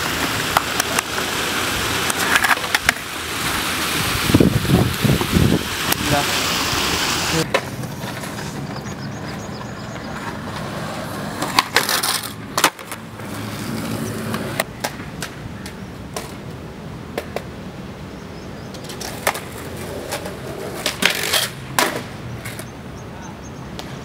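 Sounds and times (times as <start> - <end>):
skateboard clacking: 0.0 - 17.5, 18.7 - 22.8
skateboard wheels rolling on concrete: 0.0 - 24.0.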